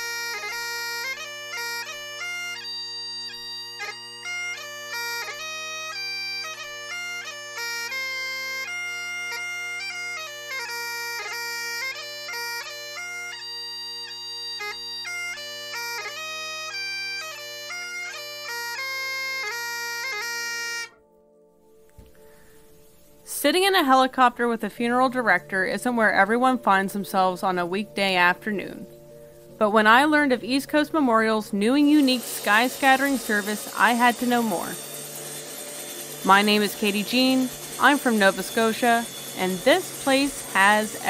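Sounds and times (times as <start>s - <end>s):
bagpipe drones: 0.0s - 23.9s, 25.3s - 41.0s
bagpipe chanter tune: 0.0s - 41.0s.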